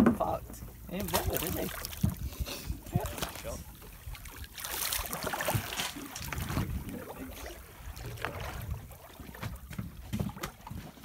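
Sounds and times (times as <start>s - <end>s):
water slopping against boat: 0.0s - 11.0s
wind rumbling on microphone: 0.9s - 10.8s.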